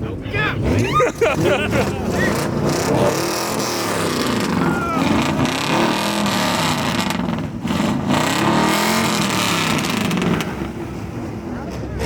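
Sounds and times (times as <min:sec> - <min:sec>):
car engine revving: 0:00.5 - 0:12.0.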